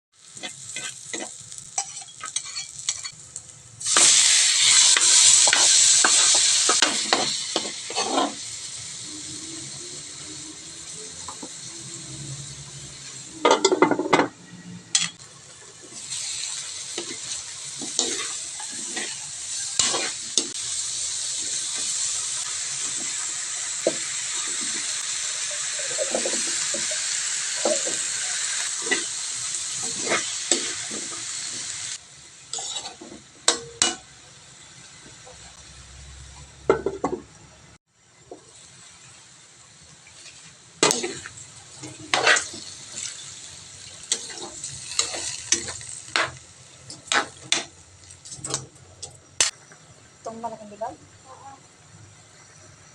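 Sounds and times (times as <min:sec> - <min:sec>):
food sizzling in hot oil: 0:00.1 - 0:37.2, 0:38.0 - 0:52.9.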